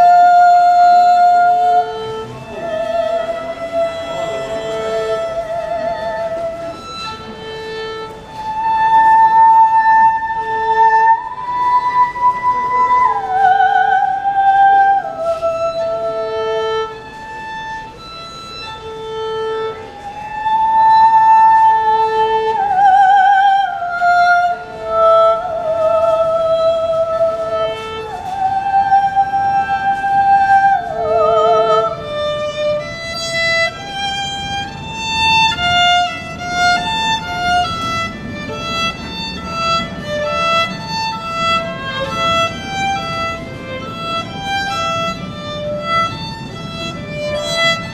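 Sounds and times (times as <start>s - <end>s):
solo violin melody: 0.0s - 47.9s.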